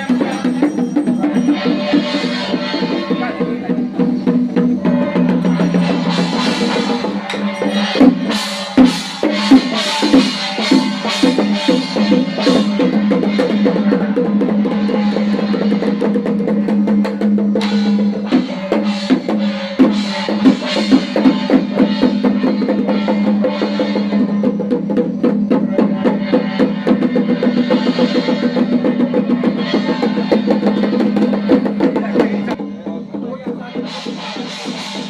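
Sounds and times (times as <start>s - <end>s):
drums and percussion beating: 0.0s - 35.0s.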